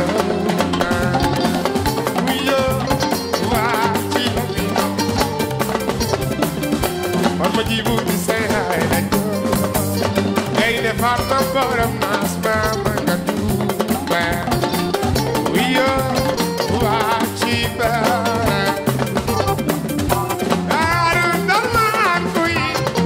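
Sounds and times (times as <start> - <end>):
man singing: 0.0 - 5.6, 7.2 - 19.2, 20.5 - 23.0
hand drums: 0.0 - 23.0
live band playing: 0.0 - 23.0.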